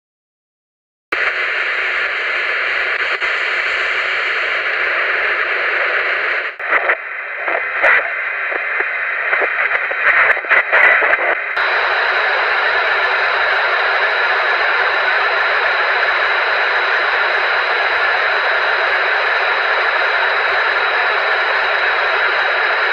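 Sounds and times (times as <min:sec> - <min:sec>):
radio static hiss: 0:01.2 - 0:22.9.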